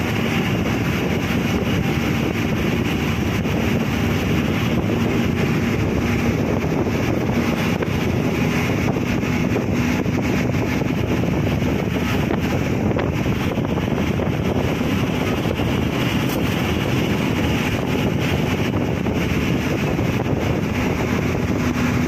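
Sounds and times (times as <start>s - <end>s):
engine and tyres humming: 0.0s - 22.0s
wind rushing through open window: 0.0s - 22.0s.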